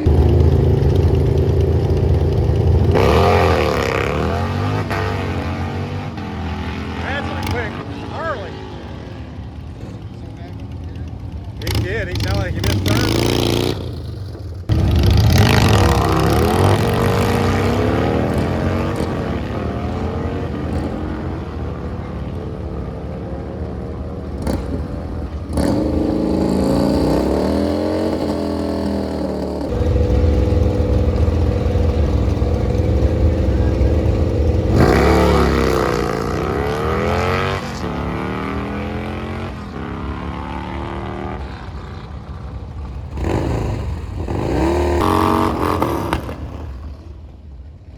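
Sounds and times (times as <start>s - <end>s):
drag racing engines revving: 0.0s - 47.4s.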